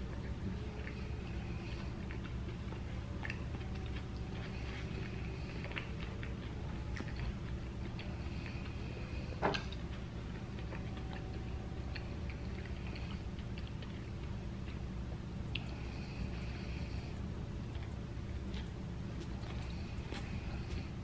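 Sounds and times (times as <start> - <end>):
chewing food: 0.0 - 21.0
steady low hum: 0.0 - 21.0.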